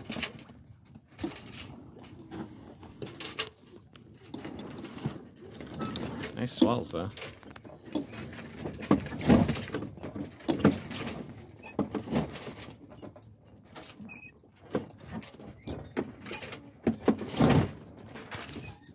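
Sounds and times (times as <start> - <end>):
sails and rigging slapping: 0.0 - 18.9.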